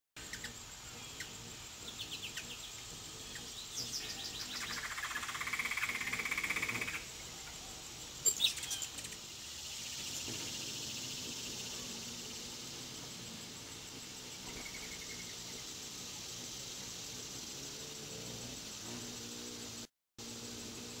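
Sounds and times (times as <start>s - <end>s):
hummingbird chip notes: 0.2s - 21.0s
rapid pulsing buzz: 0.2s - 21.0s
steady high hiss: 0.2s - 21.0s.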